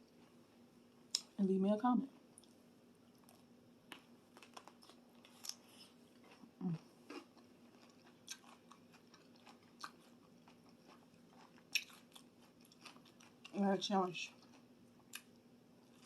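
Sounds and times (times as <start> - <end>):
chewing and crunching: 2.2 - 16.0.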